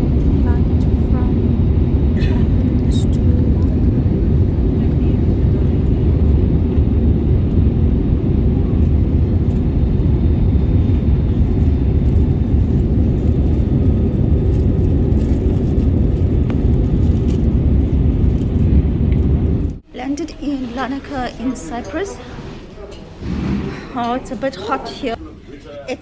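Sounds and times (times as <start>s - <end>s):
jet engine and airflow rumble: 0.0s - 25.2s.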